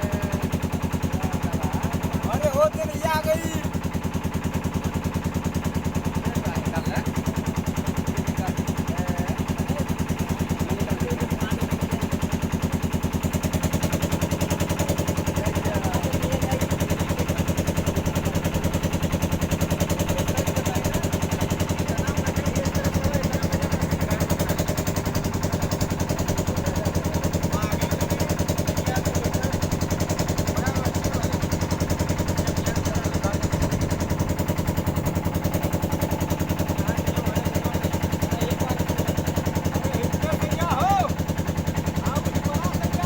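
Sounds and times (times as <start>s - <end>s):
engine chugging: 0.0s - 43.0s.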